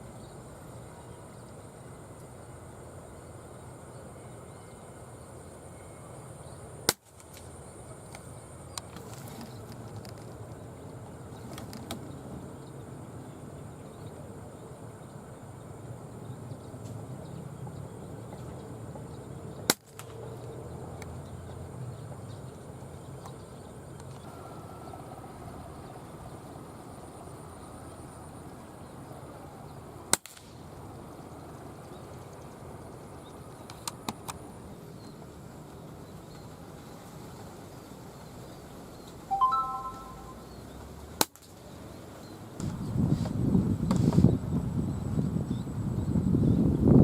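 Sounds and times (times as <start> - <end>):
outdoor background noise: 0.0 - 47.0.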